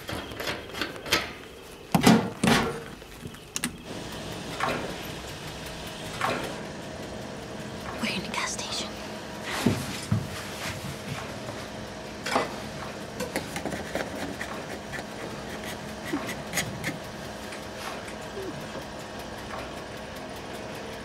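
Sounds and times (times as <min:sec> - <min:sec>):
fuel pump humming: 0:00.0 - 0:21.0.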